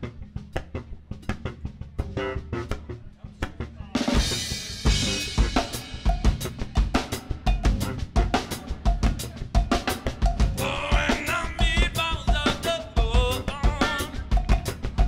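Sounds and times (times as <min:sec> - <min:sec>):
funk band playing live: 0:00.0 - 0:15.0
drum kit snare and kick hits: 0:00.6 - 0:15.0.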